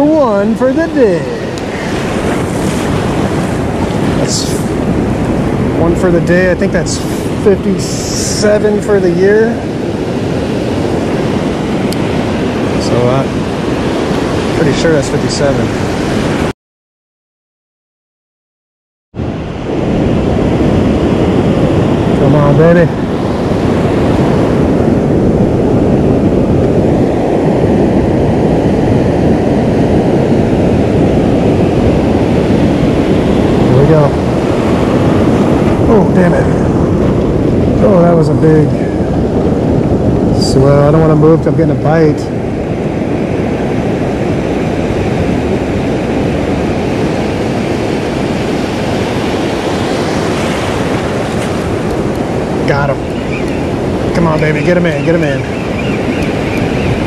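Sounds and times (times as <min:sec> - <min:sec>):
surf breaking: 0:00.0 - 0:16.5, 0:19.2 - 0:57.0
wind buffeting microphone: 0:00.0 - 0:16.5, 0:19.2 - 0:57.0.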